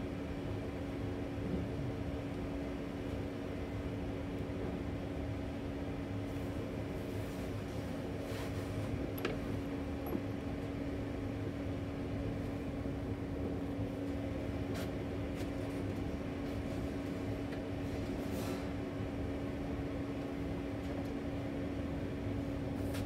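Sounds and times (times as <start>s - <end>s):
mechanical hum: 0.0s - 23.0s.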